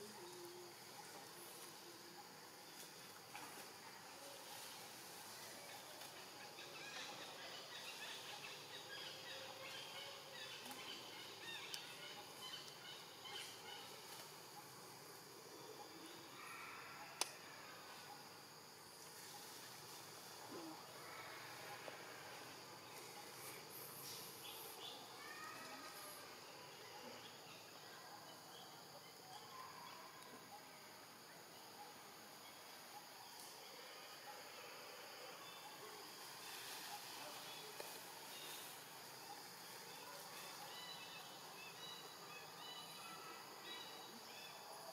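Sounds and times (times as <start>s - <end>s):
steady insect hum: 0.0s - 44.9s.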